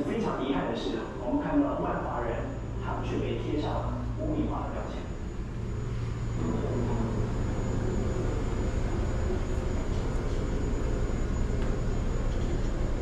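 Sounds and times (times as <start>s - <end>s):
low city rumble: 0.0s - 13.0s.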